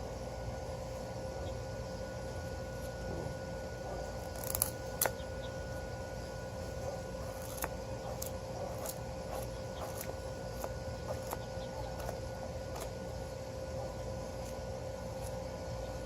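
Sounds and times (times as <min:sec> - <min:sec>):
faint background hum: 0:00.0 - 0:16.0
knife shaving wood: 0:02.6 - 0:16.0.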